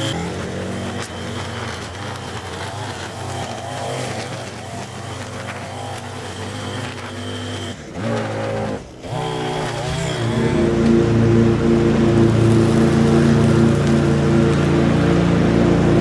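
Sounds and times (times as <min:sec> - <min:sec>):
string trimmer whining: 0:00.0 - 0:16.0.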